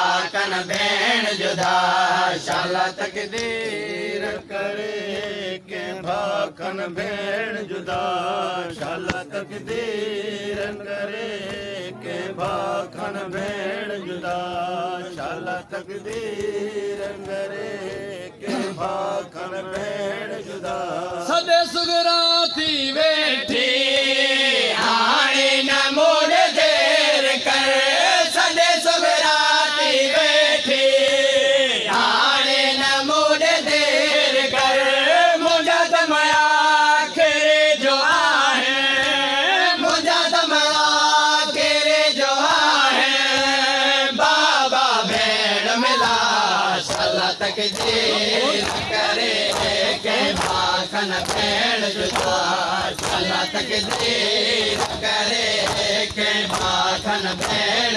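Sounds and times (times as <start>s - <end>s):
crowd noise: 0.0s - 57.9s
men chanting in unison: 0.0s - 57.9s.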